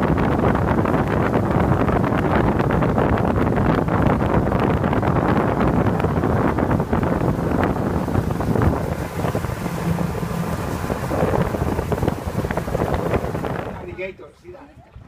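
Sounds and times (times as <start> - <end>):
motorboat engine: 0.0 - 14.2
wind buffeting microphone: 0.0 - 15.0.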